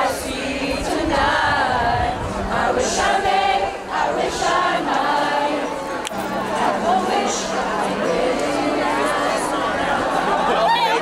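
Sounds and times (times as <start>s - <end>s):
backing music: 0.0s - 11.0s
choir singing: 0.0s - 11.0s.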